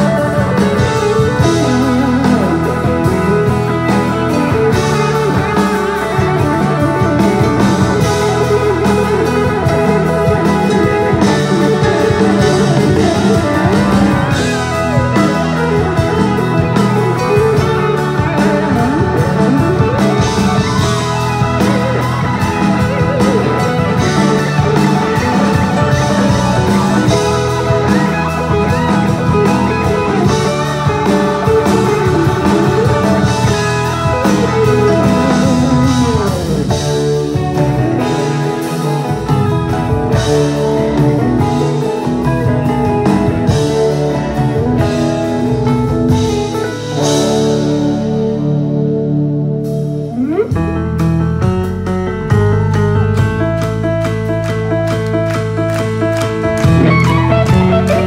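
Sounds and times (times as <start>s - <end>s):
bass guitar: 0.0s - 58.0s
drum kit: 0.0s - 58.0s
electric guitar lead: 0.0s - 58.0s
keyboard: 0.0s - 58.0s.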